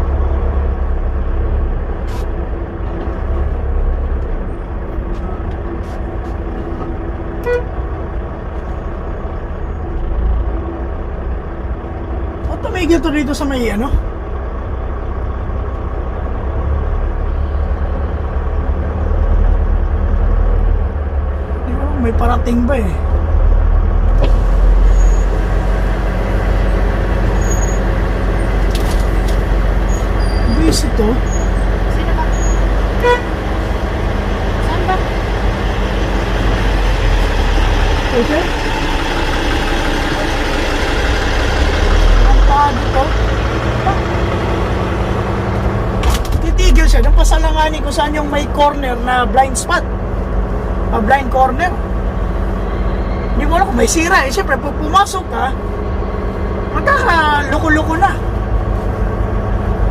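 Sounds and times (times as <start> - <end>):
diesel truck engine rumble: 0.0 - 59.9.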